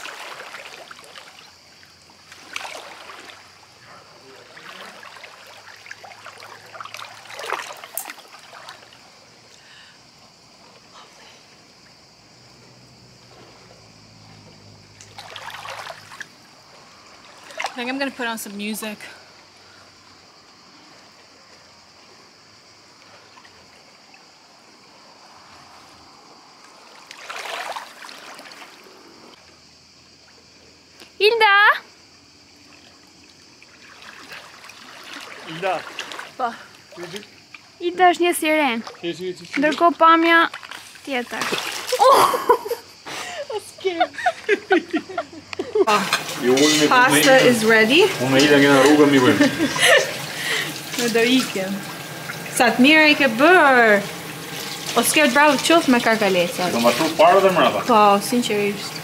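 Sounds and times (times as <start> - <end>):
water sloshing and splashing: 0.0 - 29.6, 32.4 - 59.0
trickling water: 0.0 - 31.1, 32.0 - 59.0.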